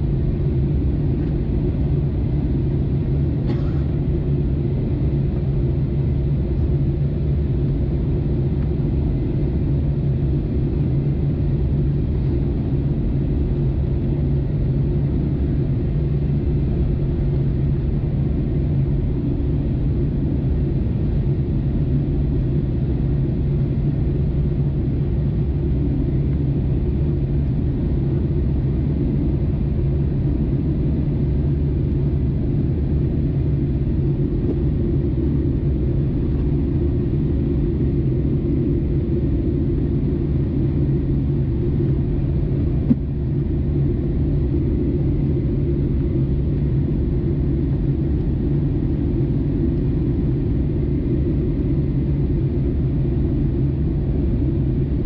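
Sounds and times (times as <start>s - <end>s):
airflow rumble: 0.0s - 55.0s
low engine drone: 0.0s - 55.0s.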